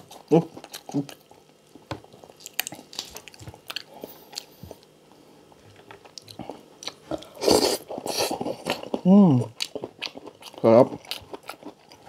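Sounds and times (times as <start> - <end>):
crispy meat chewing: 0.0 - 5.0, 5.6 - 12.0.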